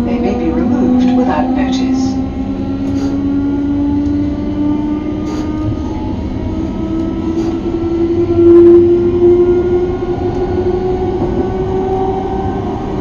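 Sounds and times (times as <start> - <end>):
train motor whine: 0.0 - 13.0
wheels rumbling on track: 0.0 - 13.0.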